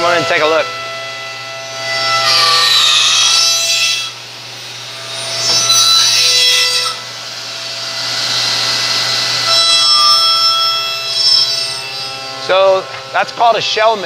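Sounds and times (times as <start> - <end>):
milling machine whine: 0.0 - 14.0
rough metal cutting noise: 0.0 - 14.0.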